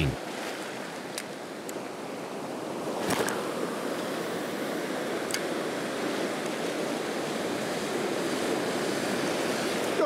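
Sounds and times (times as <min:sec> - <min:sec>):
ocean surf breaking on boulders: 0:00.0 - 0:10.0.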